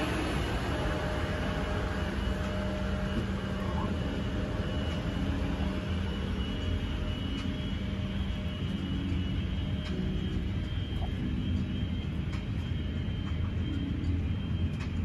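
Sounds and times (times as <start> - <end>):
aircraft cabin hum and rumble: 0.0 - 15.0.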